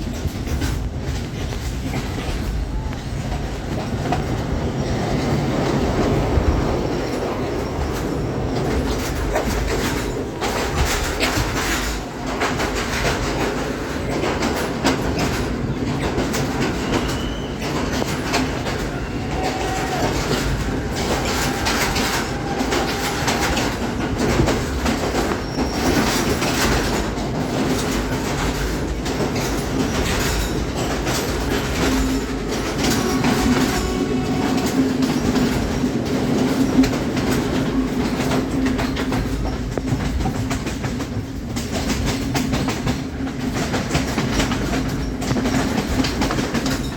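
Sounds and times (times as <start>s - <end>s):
train rumbling: 0.0s - 46.9s
wheels clickety-clack on rail joints: 0.0s - 46.9s.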